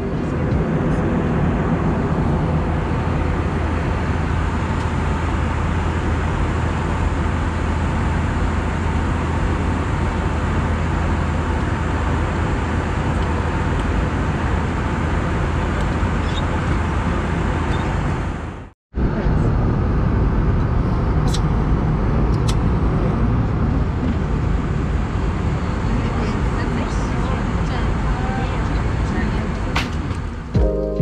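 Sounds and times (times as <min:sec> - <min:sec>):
airplane cabin airflow and engine noise: 0:00.0 - 0:31.0.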